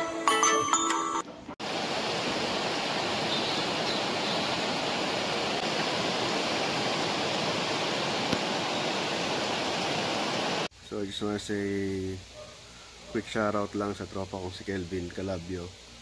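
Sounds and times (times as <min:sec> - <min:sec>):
steady rain pouring: 0:01.6 - 0:16.0.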